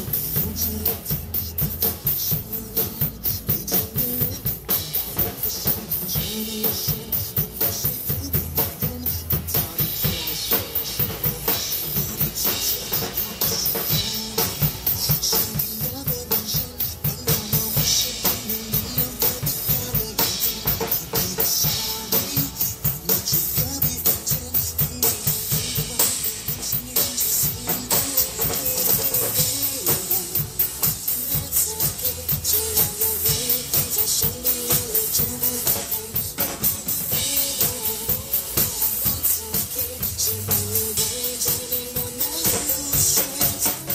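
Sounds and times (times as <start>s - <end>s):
drum kit playing a beat: 0.0s - 43.9s
pop song backing track: 0.0s - 43.9s.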